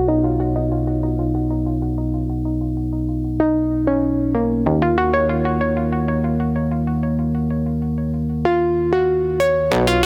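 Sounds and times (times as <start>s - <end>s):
electronic ambient music: 0.0s - 10.0s.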